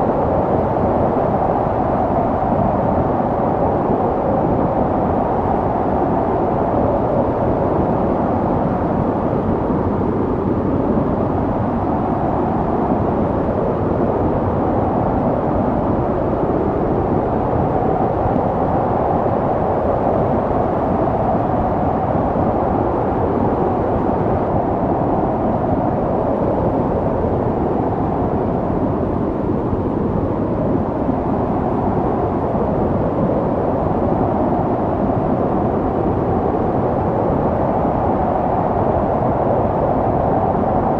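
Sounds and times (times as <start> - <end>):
snowstorm wind blowing: 0.0 - 40.9.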